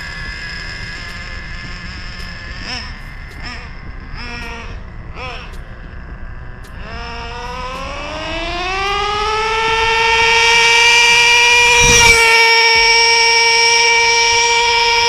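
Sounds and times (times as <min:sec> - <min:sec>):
high-speed motor whine: 0:00.0 - 0:15.0.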